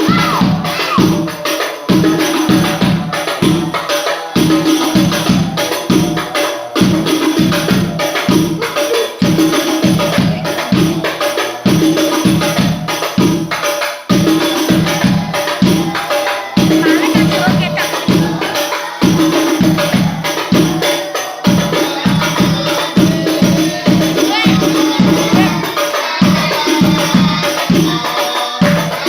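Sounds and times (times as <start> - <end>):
frame drums played by hand: 0.0 - 29.0.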